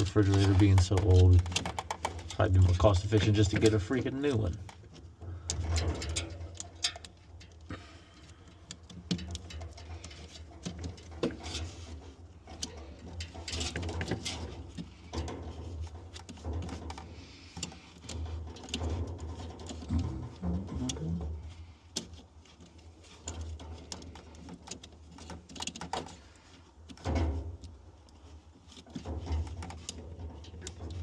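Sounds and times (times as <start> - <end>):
tools clicking and knocking: 0.0 - 31.0.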